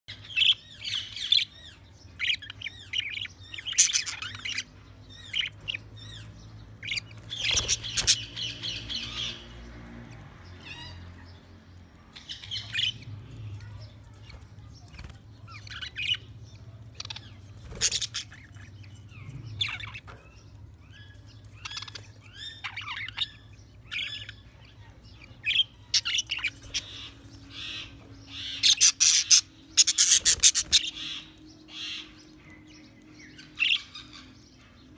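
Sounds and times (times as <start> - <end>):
budgerigars chirping and warbling: 0.1 - 34.9.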